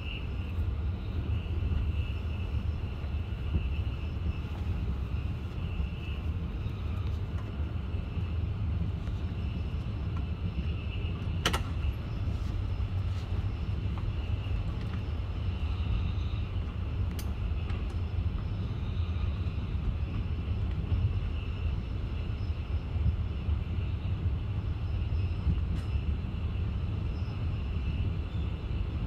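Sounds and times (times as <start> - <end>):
faint high whine: 0.0 - 29.0
train wheels rumbling on rails: 0.0 - 29.0.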